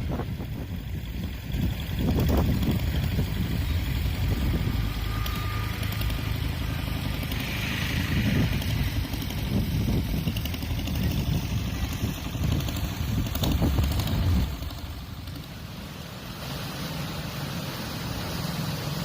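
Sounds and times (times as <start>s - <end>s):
engine low rumble: 0.0s - 19.0s.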